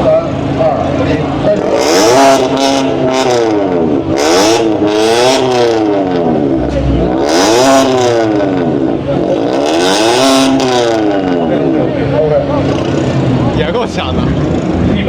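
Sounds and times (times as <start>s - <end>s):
car engine revving loudly: 0.0s - 15.0s.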